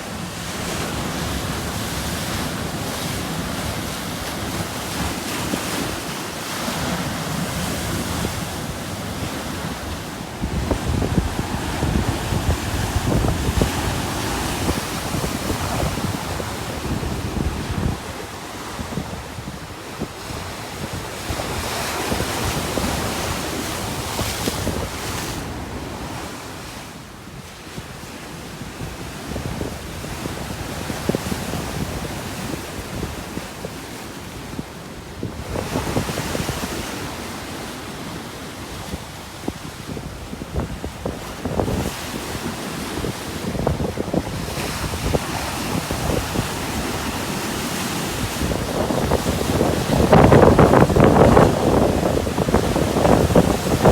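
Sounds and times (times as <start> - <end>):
wind buffeting microphone: 0.0 - 26.5, 28.0 - 53.9
waves breaking: 0.0 - 28.0, 29.3 - 53.9.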